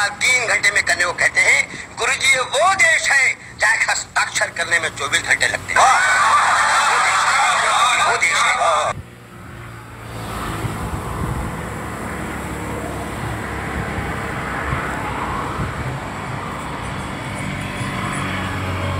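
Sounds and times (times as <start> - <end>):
highway traffic passing: 0.0 - 18.9.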